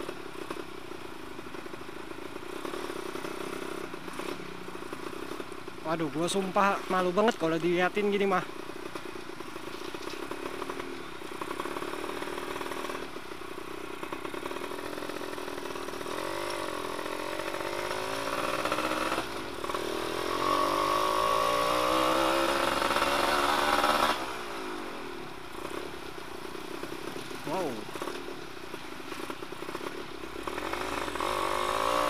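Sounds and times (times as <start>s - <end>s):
two-stroke moped engine: 0.0s - 32.0s.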